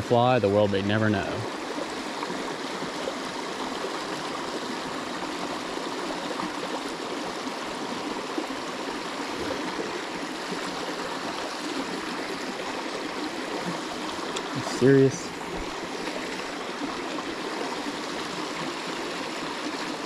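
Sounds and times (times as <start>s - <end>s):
creek water rushing over rocks: 0.0s - 20.0s.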